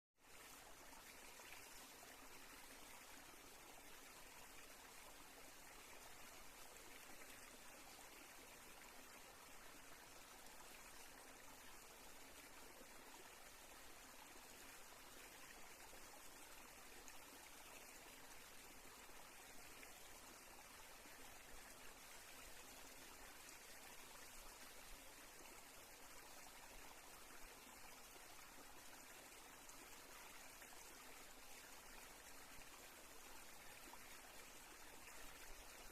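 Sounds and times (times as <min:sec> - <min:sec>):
faint outdoor ambience hiss: 0:00.2 - 0:35.9.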